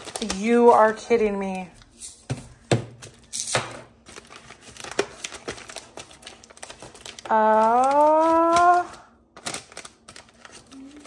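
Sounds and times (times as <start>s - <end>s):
seasoning packets crinkling: 0.0s - 2.0s, 3.1s - 11.0s.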